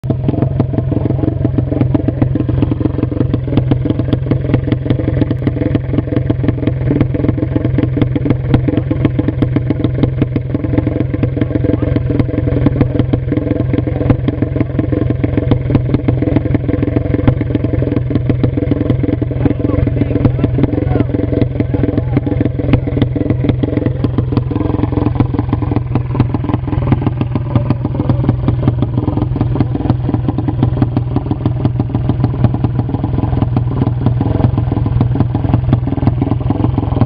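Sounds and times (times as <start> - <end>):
motorcycle engine running loudly: 0.0 - 37.0.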